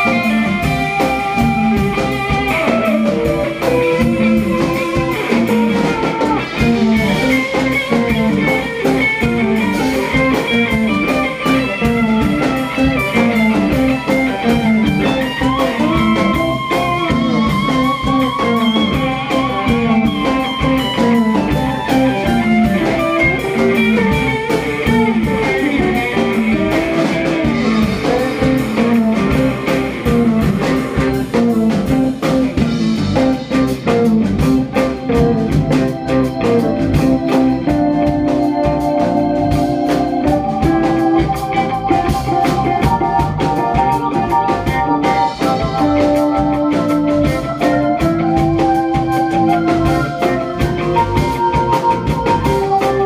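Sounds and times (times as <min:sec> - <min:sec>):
drum kit: 0:00.0 - 0:53.0
electric guitars: 0:00.0 - 0:53.0
keyboard: 0:00.0 - 0:53.0.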